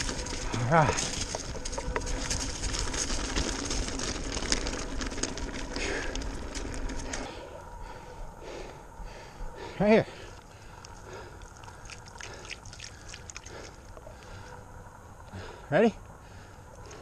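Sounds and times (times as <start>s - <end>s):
bike tyres crunching on gravel: 0.0s - 9.4s, 10.1s - 14.5s
bike rattling: 0.0s - 14.6s.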